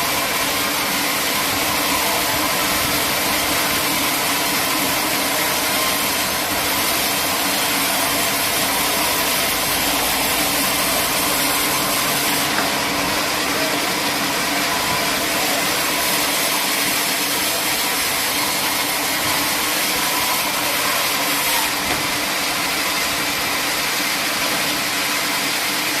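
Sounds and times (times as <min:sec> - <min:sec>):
sawmill machinery hiss and hum: 0:00.0 - 0:26.0.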